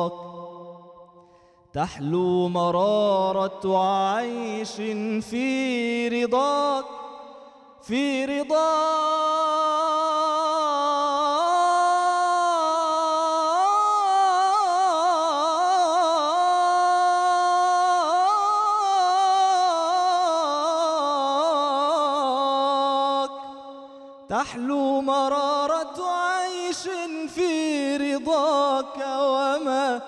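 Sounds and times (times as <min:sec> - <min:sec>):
man singing unaccompanied: 0:00.0 - 0:00.8, 0:01.8 - 0:30.0.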